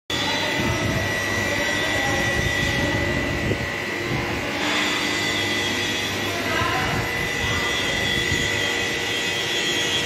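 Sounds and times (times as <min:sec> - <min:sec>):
factory machinery noise: 0:00.1 - 0:10.0
high whine: 0:00.1 - 0:10.0.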